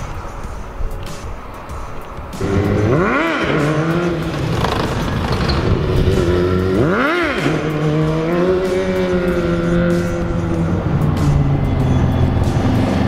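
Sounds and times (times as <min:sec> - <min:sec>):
car engine revving: 0:02.3 - 0:13.0.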